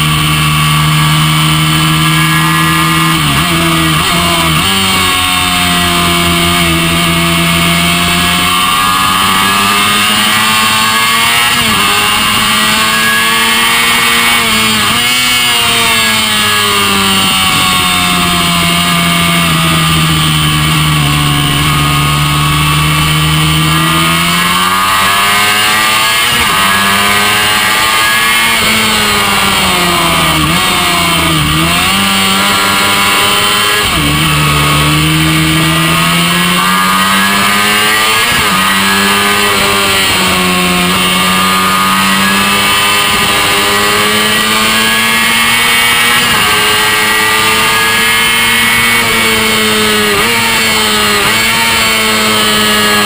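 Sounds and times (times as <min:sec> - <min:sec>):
motorcycle engine racing: 0:00.0 - 0:53.0.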